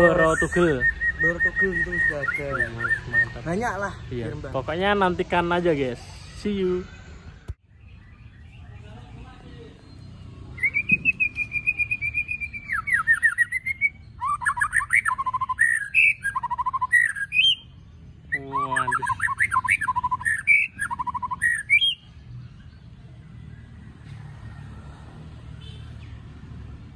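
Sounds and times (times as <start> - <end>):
bird singing whistled notes and trills: 0.0 - 4.1, 4.8 - 24.6.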